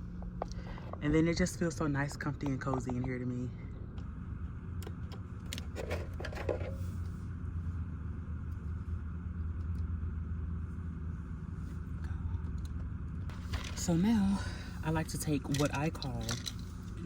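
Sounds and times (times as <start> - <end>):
air conditioning blower: 0.0 - 17.0
car engine idling: 0.0 - 17.0.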